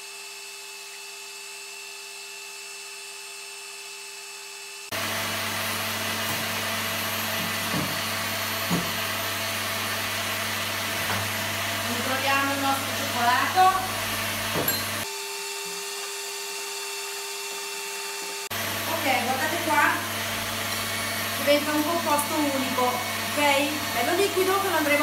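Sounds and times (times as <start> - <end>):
stick blender whipping egg whites: 0.0 - 25.0.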